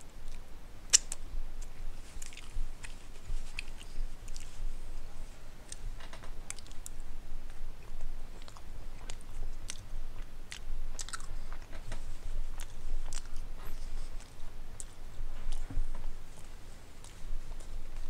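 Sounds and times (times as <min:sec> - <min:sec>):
low steady hum: 0:00.0 - 0:18.0
person chewing food: 0:00.2 - 0:04.7, 0:06.5 - 0:18.0.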